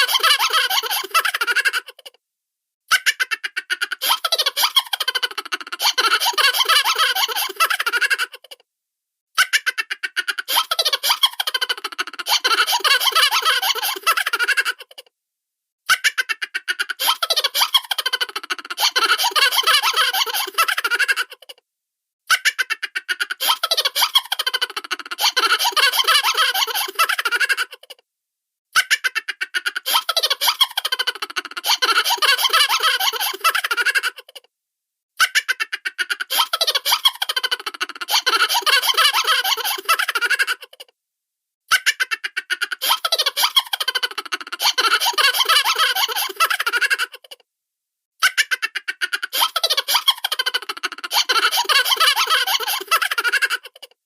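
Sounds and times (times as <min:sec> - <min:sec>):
high-pitched cartoon laugh: 0:00.0 - 0:02.2, 0:02.9 - 0:08.6, 0:09.4 - 0:15.1, 0:15.9 - 0:21.6, 0:22.3 - 0:28.0, 0:28.8 - 0:34.5, 0:35.2 - 0:40.9, 0:41.7 - 0:47.4, 0:48.2 - 0:54.0.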